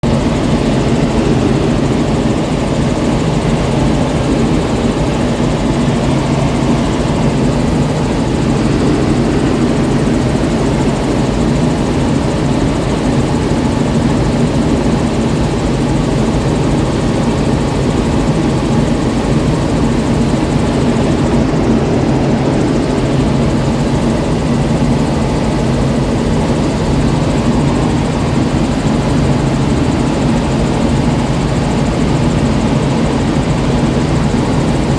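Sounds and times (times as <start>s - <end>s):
helicopter engine and rotor: 0.0s - 34.9s.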